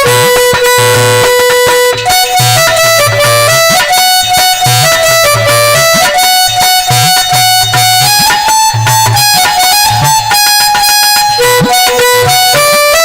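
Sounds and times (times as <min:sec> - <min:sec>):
reedy melody instrument: 0:00.0 - 0:13.0.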